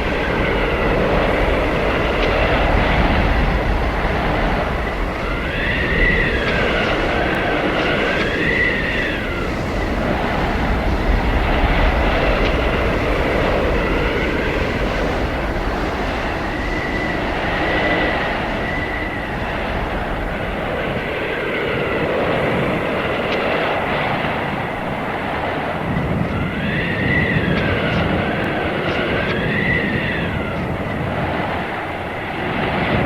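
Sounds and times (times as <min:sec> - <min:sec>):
howling blizzard wind: 0:00.0 - 0:33.0.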